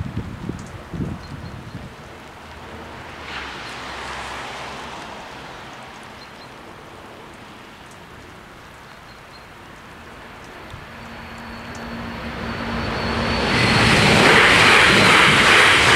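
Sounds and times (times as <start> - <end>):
rain hissing on wet road: 0.0 - 13.6.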